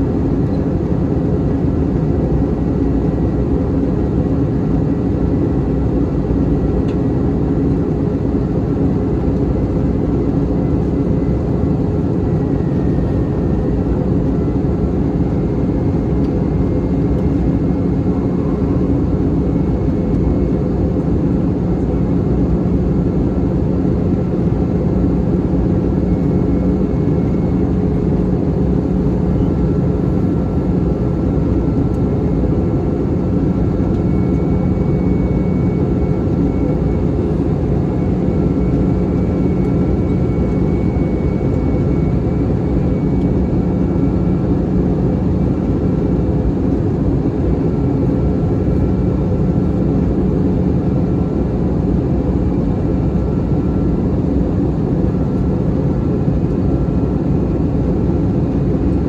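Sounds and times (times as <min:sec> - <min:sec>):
airliner cabin roar: 0:00.0 - 0:59.0.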